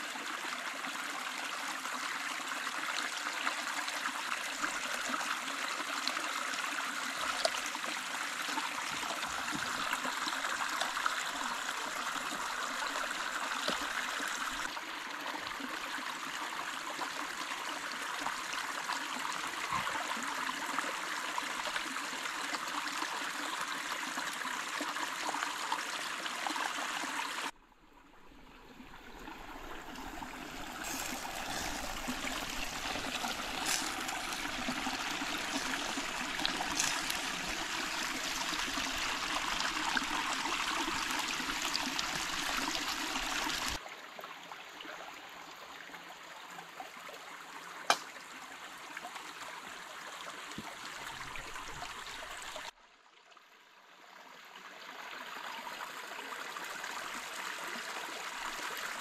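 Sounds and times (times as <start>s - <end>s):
stream running over stones: 0.0s - 53.4s, 54.0s - 59.0s.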